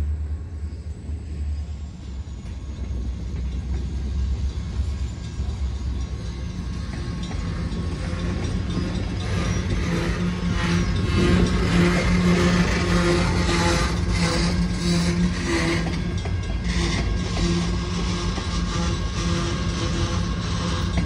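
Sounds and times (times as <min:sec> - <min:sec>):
train wheels rumbling on rail: 0:00.0 - 0:21.0
wheels clicking over rail joints: 0:02.4 - 0:21.0.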